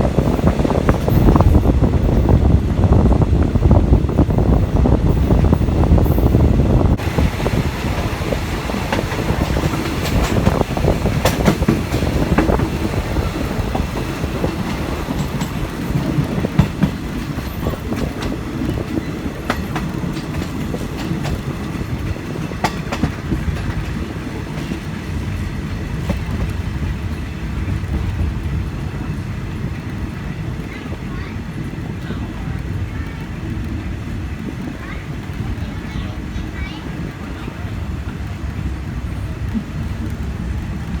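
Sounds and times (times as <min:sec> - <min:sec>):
train rumbling on track: 0:00.0 - 0:41.0
wheels clicking over rail joints: 0:00.0 - 0:41.0.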